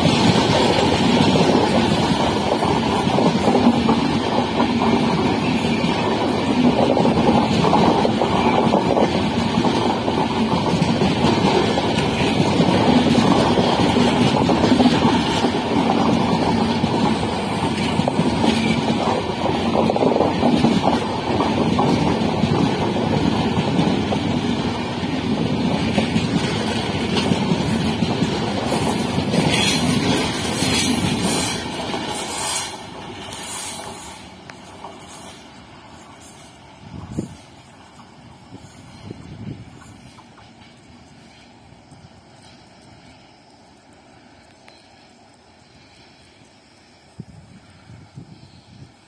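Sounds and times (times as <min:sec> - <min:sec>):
train wheels rumbling and clattering: 0:00.0 - 0:49.0.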